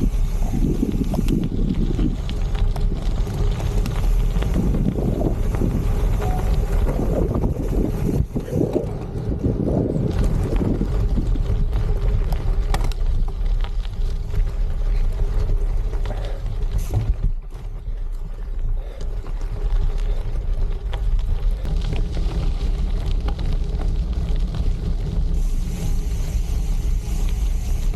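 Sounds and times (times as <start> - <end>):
bike tyres rolling over gravel: 0.0 - 27.9
wind buffeting microphone: 0.0 - 27.9.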